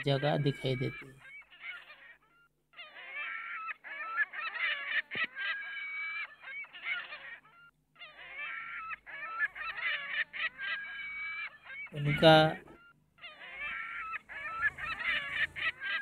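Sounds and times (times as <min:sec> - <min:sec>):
flamingos honking: 0:02.9 - 0:16.0.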